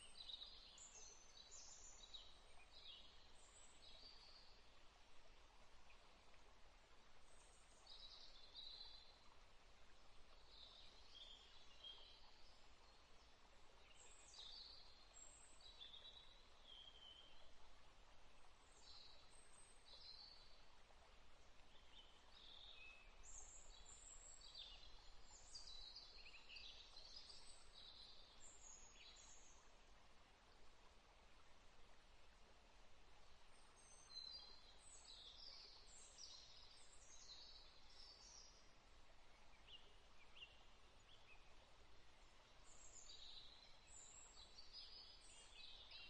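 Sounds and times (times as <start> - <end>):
faint birds chirping: 0.0 - 46.0
flowing stream hiss: 0.0 - 46.0.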